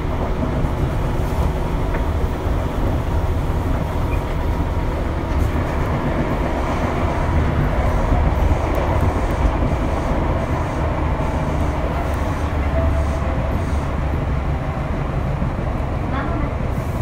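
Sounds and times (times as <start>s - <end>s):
electric train equipment humming: 0.0s - 17.0s.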